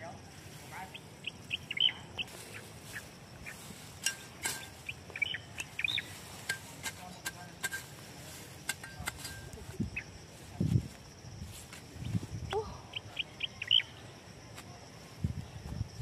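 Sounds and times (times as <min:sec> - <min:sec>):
small birds chirping: 0:00.0 - 0:11.0, 0:11.7 - 0:14.4.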